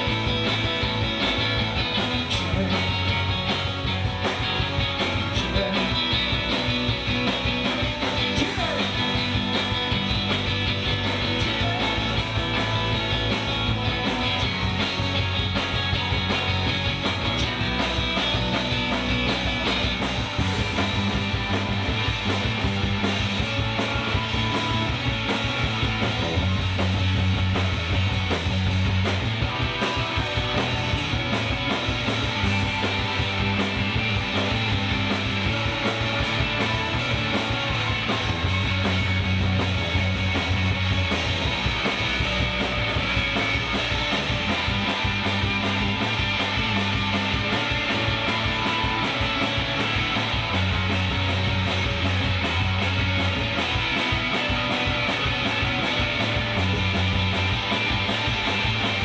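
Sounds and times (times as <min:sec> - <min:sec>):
drum kit beat: 0:00.0 - 0:59.0
electric bass guitar: 0:00.0 - 0:59.0
electric guitar: 0:00.0 - 0:59.0.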